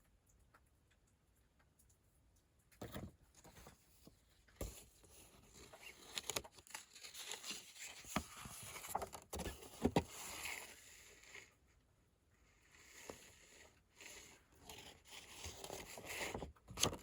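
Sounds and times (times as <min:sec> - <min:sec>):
rustling and crinkling: 0:01.9 - 0:11.6, 0:12.5 - 0:17.0.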